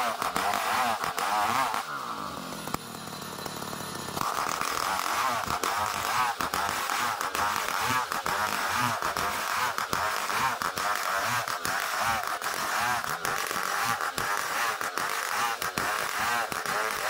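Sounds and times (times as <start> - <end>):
engine-driven saw cutting wood: 0.0 - 17.0.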